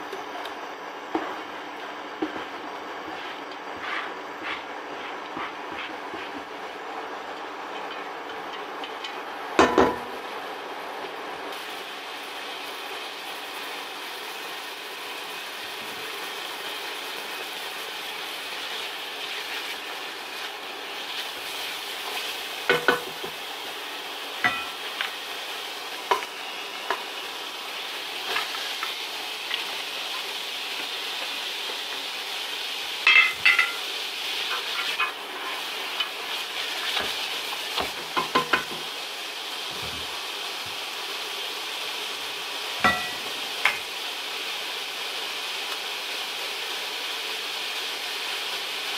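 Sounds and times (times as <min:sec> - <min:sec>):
onion sizzling in oil: 0:00.0 - 0:48.9.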